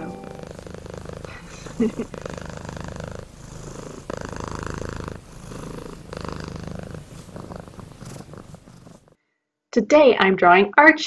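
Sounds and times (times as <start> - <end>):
cat purring: 0.0 - 9.2.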